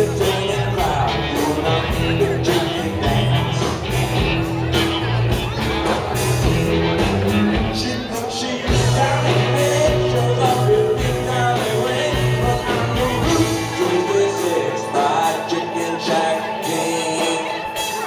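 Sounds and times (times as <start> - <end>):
electric bass low notes: 0.0 - 17.6
drum kit: 0.0 - 18.0
electric guitars: 0.0 - 18.0.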